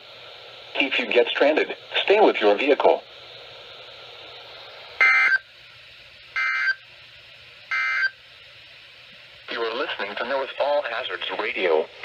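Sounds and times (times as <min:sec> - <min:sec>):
steady receiver hiss: 0:00.0 - 0:12.0.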